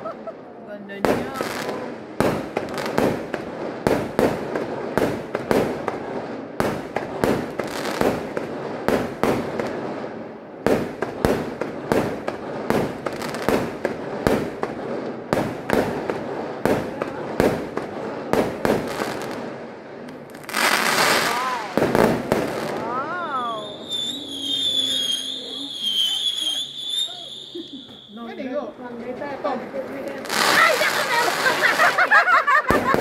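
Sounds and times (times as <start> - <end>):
firework crackling: 0.0 - 33.0.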